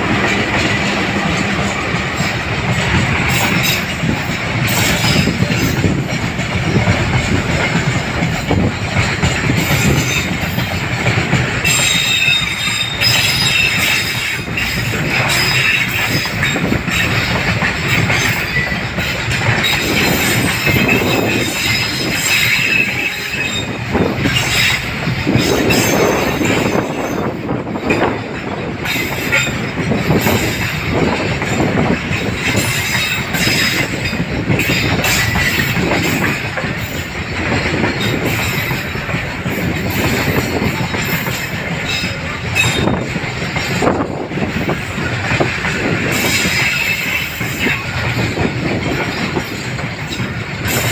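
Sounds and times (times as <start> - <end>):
train wheels clacking over rail joints: 0.0 - 50.9
wheels squealing on rails: 0.0 - 50.9.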